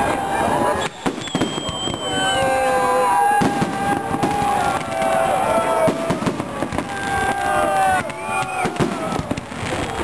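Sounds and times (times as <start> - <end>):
fireworks bangs and crackling: 0.0 - 10.0
fireworks whistling: 0.0 - 10.0.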